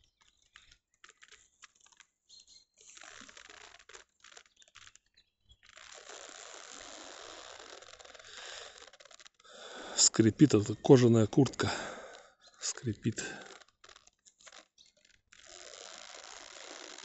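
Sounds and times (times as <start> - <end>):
leather jacket creaking: 0.0 - 17.0
leather rustling: 0.1 - 10.0, 12.8 - 17.0.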